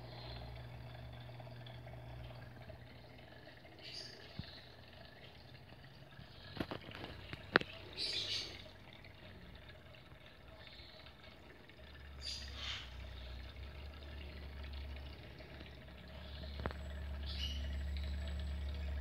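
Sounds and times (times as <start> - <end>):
aquarium water trickling: 0.0 - 19.0
low hum: 0.0 - 19.0.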